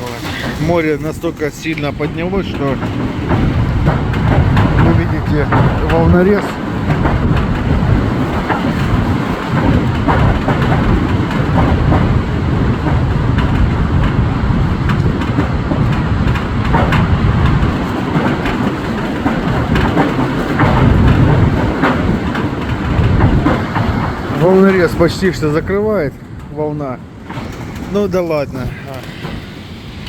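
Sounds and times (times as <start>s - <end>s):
heavy waves surging: 0.0s - 30.0s
storm wind buffeting microphone: 0.0s - 30.0s.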